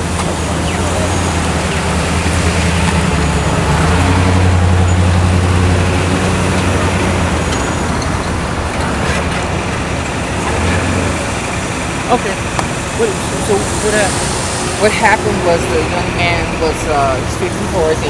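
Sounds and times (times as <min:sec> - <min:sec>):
roadway noise: 0:00.0 - 0:18.0
vehicle engine humming: 0:00.0 - 0:18.0.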